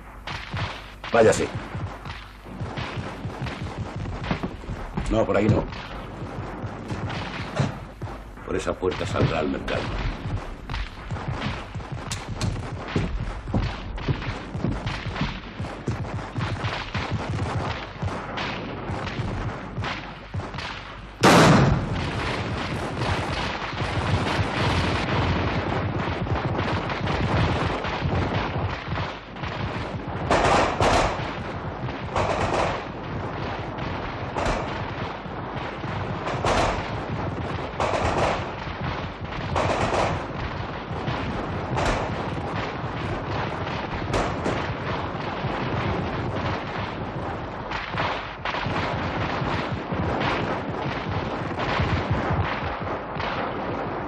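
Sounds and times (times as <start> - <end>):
heavy continuous gunfire: 0.0 - 54.0
loud blast: 0.0 - 54.0.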